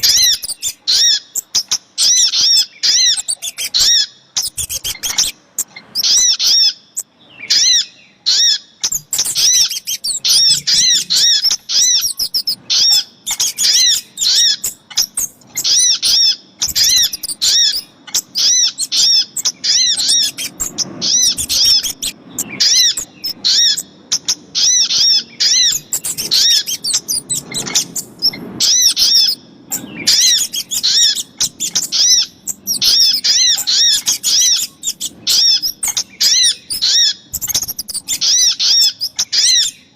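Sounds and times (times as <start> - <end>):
sharp high bird chirps: 0.0 - 39.9.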